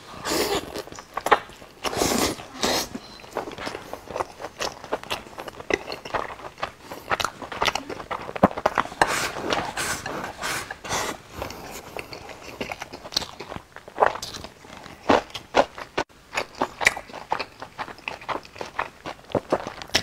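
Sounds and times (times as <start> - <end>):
man chewing food: 0.0 - 20.0.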